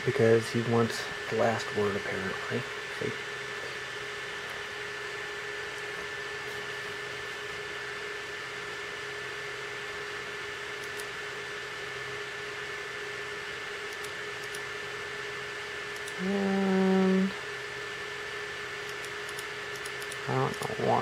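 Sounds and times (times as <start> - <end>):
faint high whine: 0.0 - 21.0.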